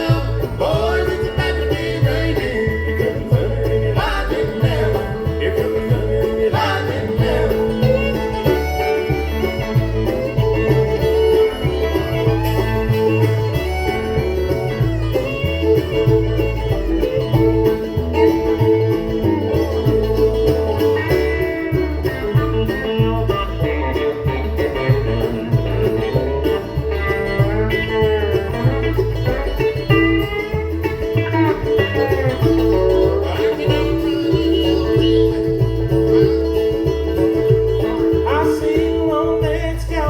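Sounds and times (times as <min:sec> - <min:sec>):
banjo picking: 0:00.0 - 0:40.0
bluegrass band playing: 0:00.0 - 0:40.0
guitar picking: 0:00.0 - 0:40.0
low bass beat: 0:00.0 - 0:40.0.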